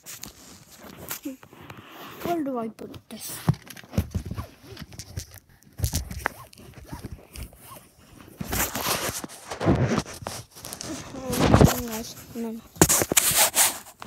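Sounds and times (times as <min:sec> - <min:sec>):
phone handling rustling and bumps: 0:02.3 - 0:13.6.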